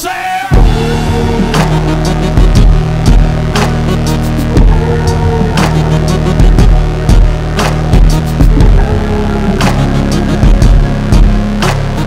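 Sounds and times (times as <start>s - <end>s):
electronic music with bass beat: 0.1s - 12.0s.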